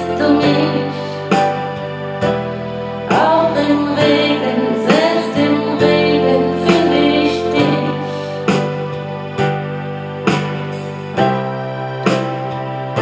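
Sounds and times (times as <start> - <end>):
electronic piano ballad chords: 0.0 - 13.0.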